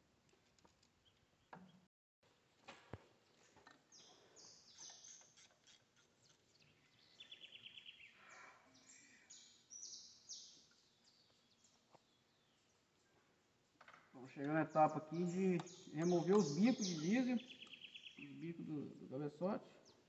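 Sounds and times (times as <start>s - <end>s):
faint birds chirping: 3.4s - 20.0s.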